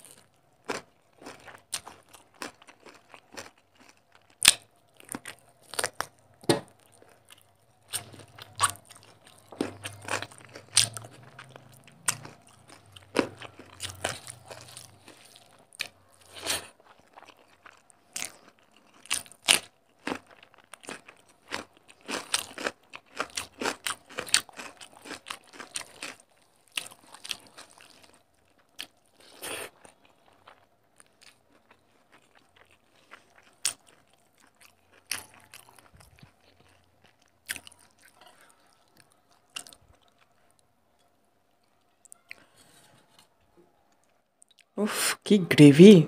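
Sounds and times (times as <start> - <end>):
chewing and crunching food: 0.0 - 44.8.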